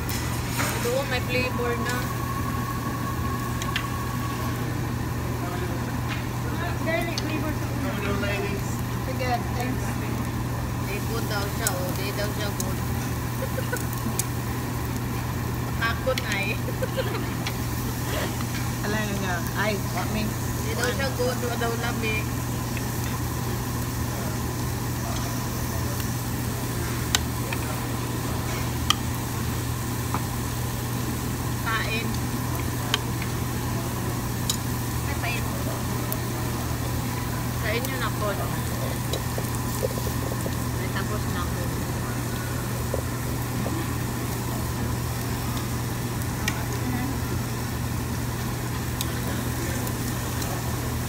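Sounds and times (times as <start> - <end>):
meat sizzling on grill: 0.0 - 51.0
ventilation hum: 0.0 - 51.0.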